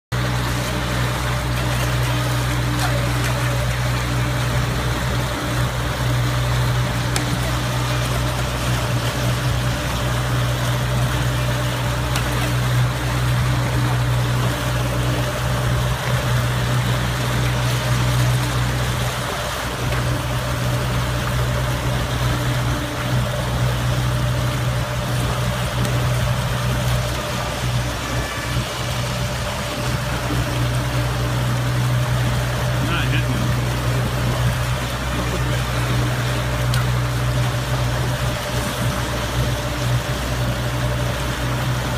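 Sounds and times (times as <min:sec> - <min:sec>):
outboard motor running: 0:00.1 - 0:41.9
water churning in boat wake: 0:00.1 - 0:41.9.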